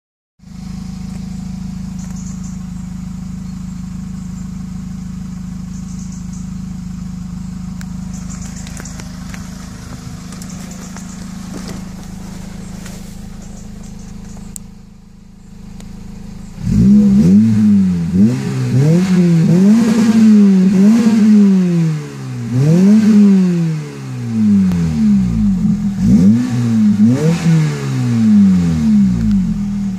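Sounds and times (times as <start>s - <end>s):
car engine idling and revving: 0.4s - 29.9s.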